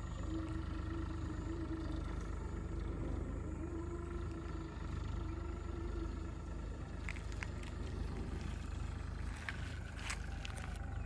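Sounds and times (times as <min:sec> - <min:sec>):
faint steady hum: 0:00.0 - 0:11.0
low background rumble: 0:00.0 - 0:11.0.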